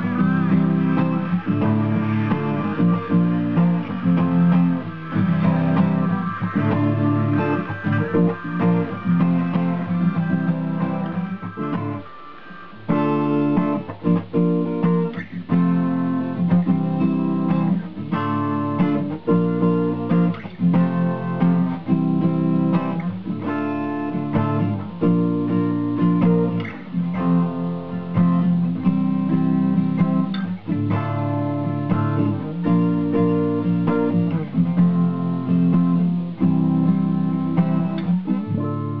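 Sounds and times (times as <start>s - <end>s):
acoustic guitar strumming chords: 0.0s - 39.0s.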